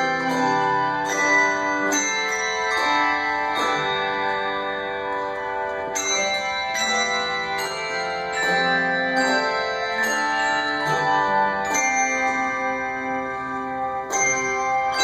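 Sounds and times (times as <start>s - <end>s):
handbell choir ringing chords: 0.0s - 15.0s.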